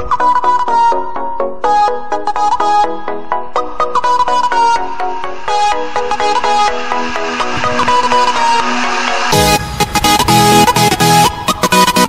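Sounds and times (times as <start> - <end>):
electronic background music: 0.0 - 12.0.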